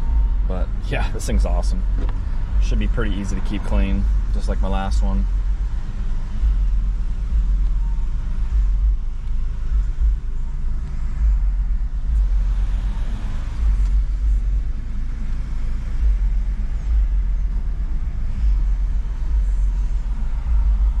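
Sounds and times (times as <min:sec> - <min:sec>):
road and wind noise in car: 0:00.0 - 0:21.0.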